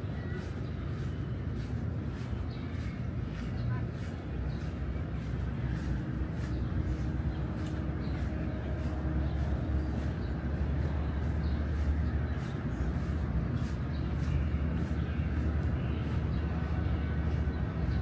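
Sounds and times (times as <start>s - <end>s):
footsteps on pavement: 0.0s - 18.0s
low outdoor rumble: 0.0s - 18.0s.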